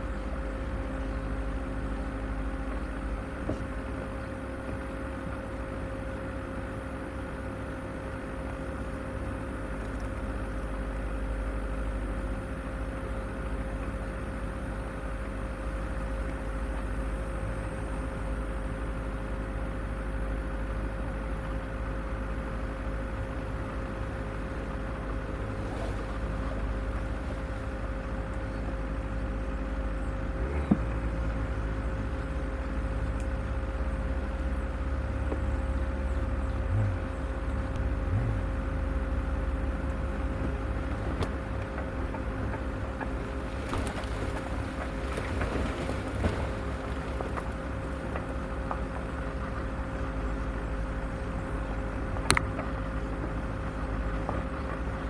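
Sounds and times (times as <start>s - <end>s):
vehicle engine running at low revs: 0.0s - 55.0s.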